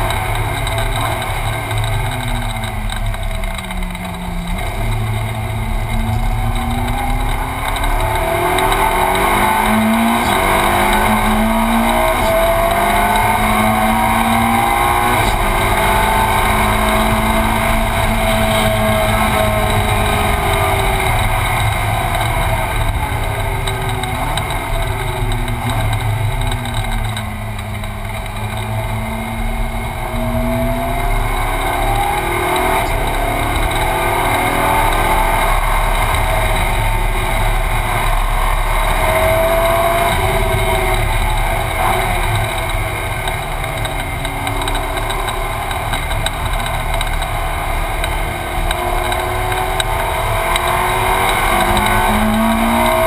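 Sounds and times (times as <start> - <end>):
racing car engine revving: 0.0 - 53.0.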